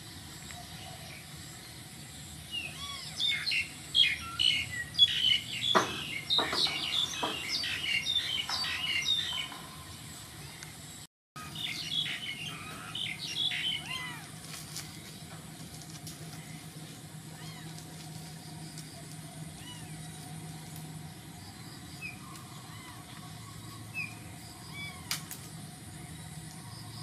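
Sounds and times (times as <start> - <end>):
birds chirping and twittering: 0.0 - 27.0.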